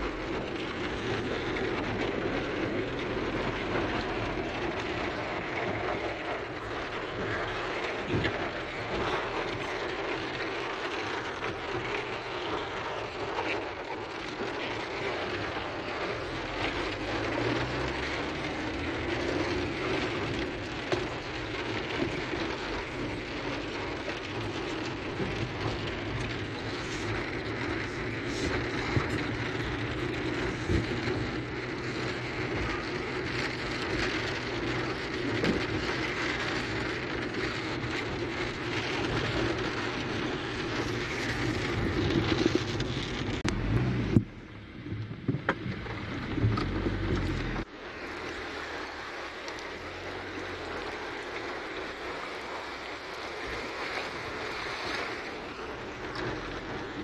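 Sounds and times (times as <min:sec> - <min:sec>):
car road noise: 0:00.0 - 0:57.0
heavy rain on a car roof: 0:00.0 - 0:57.0.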